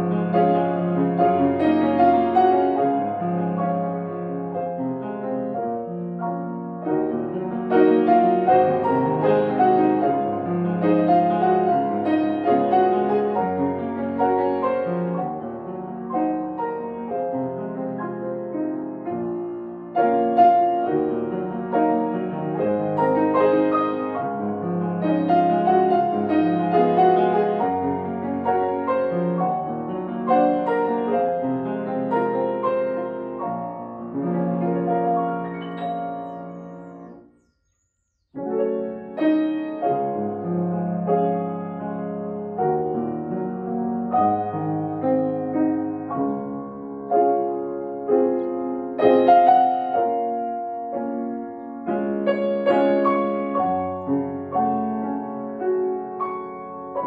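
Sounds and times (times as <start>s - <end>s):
grand piano playing hymn: 0.0s - 37.4s, 38.4s - 57.0s.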